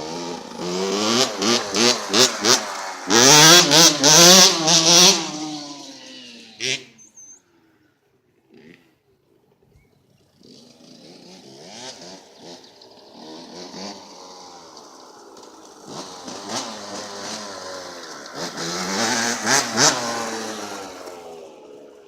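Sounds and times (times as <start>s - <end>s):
two-stroke dirt bike revving: 0.0s - 7.0s, 8.4s - 9.0s, 10.2s - 22.0s.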